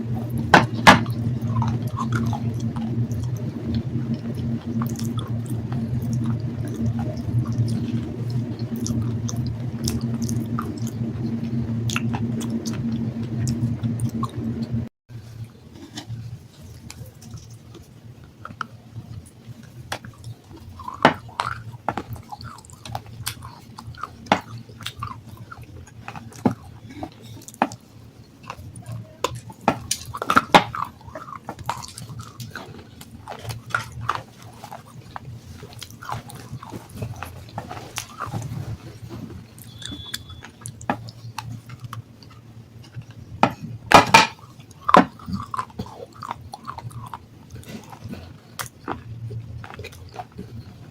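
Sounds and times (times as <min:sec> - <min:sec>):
person chewing crunchy stone: 0:00.1 - 0:14.3, 0:15.3 - 0:50.9
wet mouth sounds: 0:00.2 - 0:14.8, 0:16.7 - 0:50.9.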